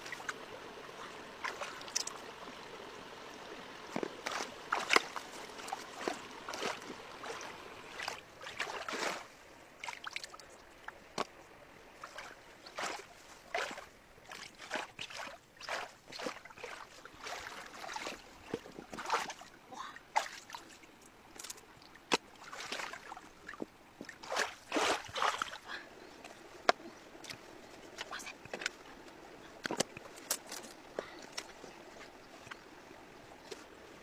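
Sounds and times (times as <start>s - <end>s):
stream water sloshing and splashing: 0.0s - 34.0s
wading boots in water: 0.0s - 34.0s.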